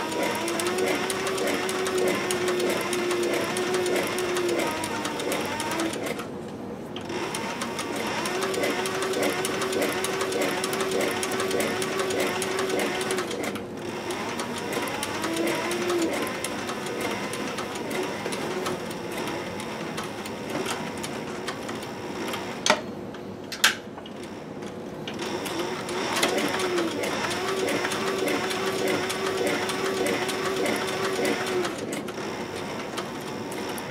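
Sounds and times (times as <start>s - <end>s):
sewing machine stitching: 0.0s - 6.3s, 7.0s - 22.7s, 25.1s - 33.9s.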